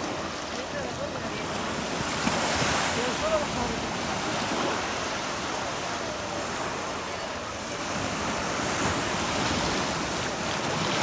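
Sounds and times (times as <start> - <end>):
sea waves breaking: 0.0 - 11.0.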